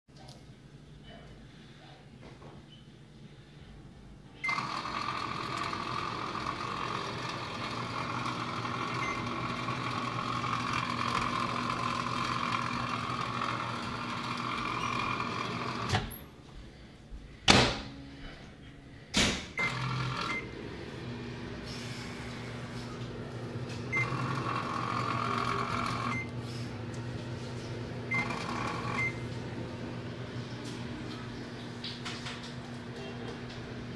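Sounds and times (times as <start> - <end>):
microwave oven humming: 0.5 - 33.9.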